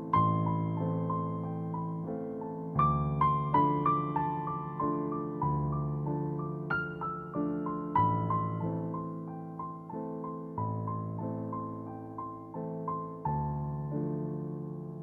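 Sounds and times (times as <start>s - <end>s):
gentle piano piece: 0.0s - 15.0s.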